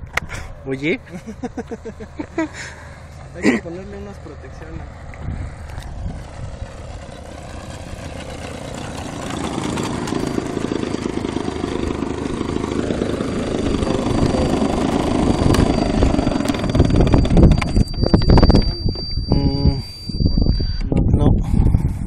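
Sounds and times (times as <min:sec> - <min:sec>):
model airplane engine idling: 0:01.5 - 0:19.2.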